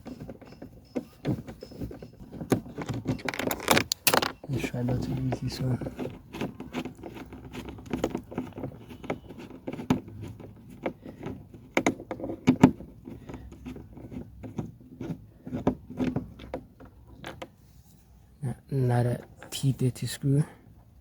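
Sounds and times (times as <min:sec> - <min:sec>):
hand tool clicking and scraping: 0:00.0 - 0:17.5.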